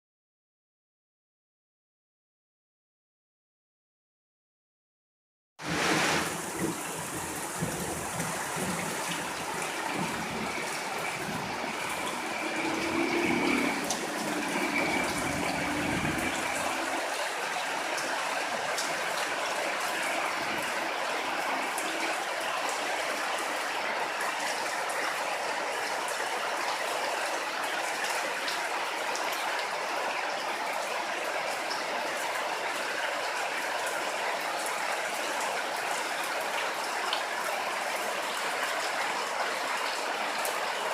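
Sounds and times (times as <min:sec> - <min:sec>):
steady rain falling: 0:05.6 - 0:40.9.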